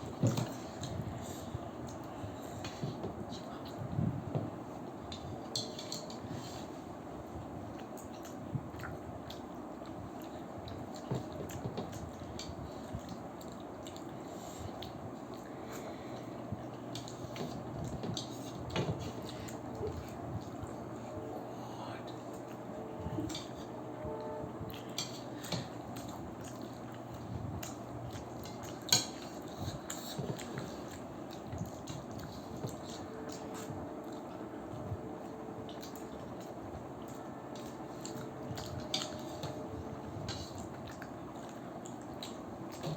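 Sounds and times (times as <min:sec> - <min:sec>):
chewing dumplings: 0:00.0 - 0:42.9.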